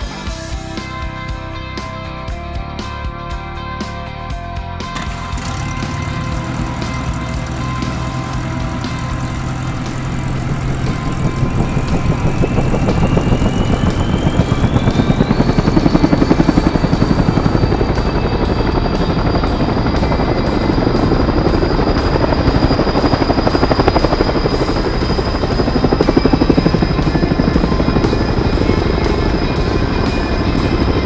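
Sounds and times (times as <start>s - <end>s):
helicopter rotor blades chopping: 4.9s - 31.0s
high turbine whine: 4.9s - 31.0s.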